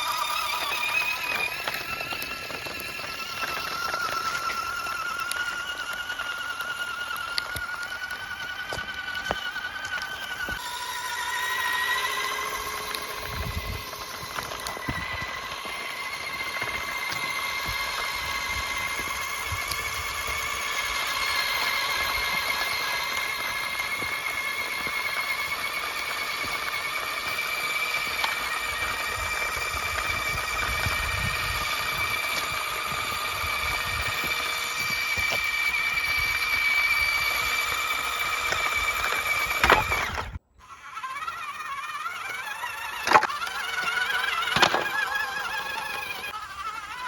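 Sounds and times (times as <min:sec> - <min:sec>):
small electric motor whine: 0:00.0 - 0:47.0.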